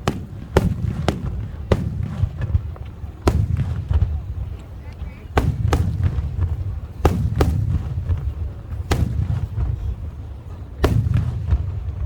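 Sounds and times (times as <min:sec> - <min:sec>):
firework shells booming: 0:00.0 - 0:12.0.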